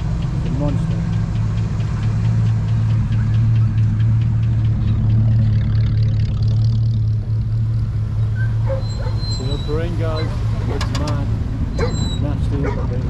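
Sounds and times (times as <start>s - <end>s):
light regular ticking: 0.0s - 8.0s, 8.7s - 12.8s
vehicle engine idling: 0.0s - 13.0s.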